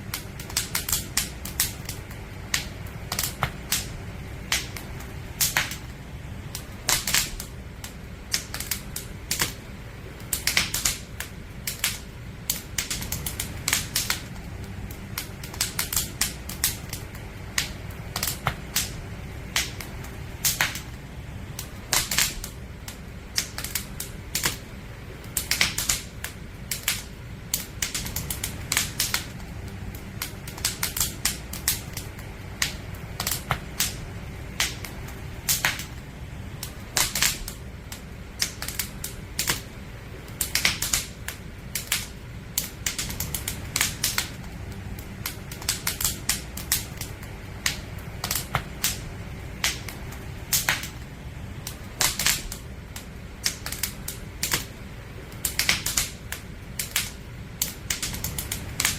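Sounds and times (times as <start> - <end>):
low steady background noise: 0.0 - 58.9
wood fire crackling: 0.0 - 58.9.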